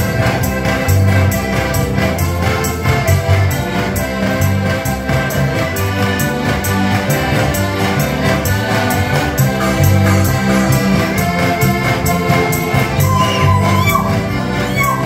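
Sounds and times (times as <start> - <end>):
button accordions playing folk tune: 0.0 - 15.0
guitar accompaniment: 0.0 - 15.0
steady beat: 0.0 - 15.0.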